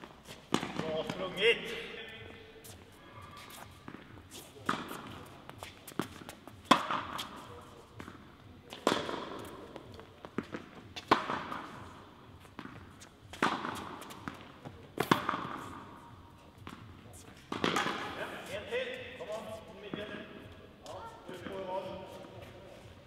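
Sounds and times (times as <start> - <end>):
racket hitting tennis ball: 0.0 - 19.2
tennis ball bouncing: 0.0 - 19.2.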